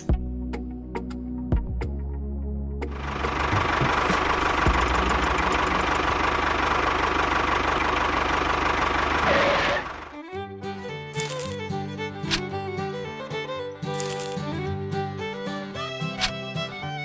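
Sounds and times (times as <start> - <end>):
small engine running: 2.9 - 17.0.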